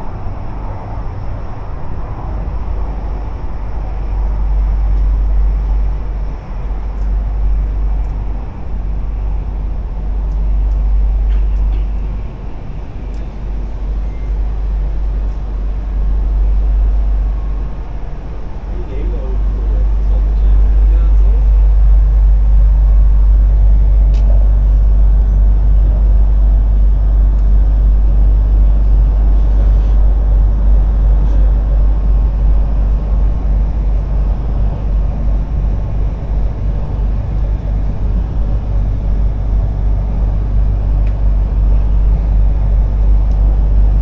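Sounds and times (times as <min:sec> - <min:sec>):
train deep rumble: 0:00.0 - 0:44.0.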